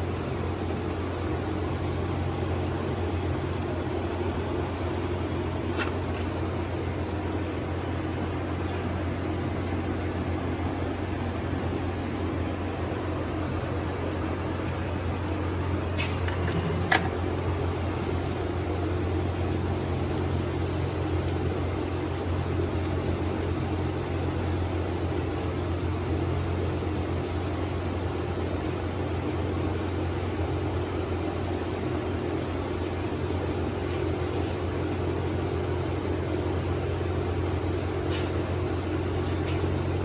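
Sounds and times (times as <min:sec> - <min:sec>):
low mechanical hum: 0:00.0 - 0:40.0.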